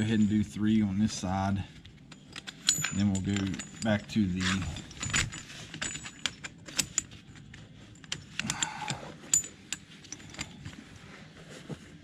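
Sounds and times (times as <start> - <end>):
steel chain links clinking: 0.0 - 10.7.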